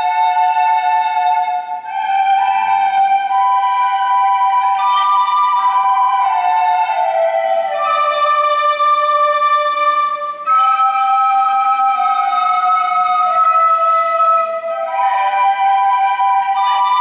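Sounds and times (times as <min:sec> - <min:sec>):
slow folk music: 0:00.0 - 0:17.0.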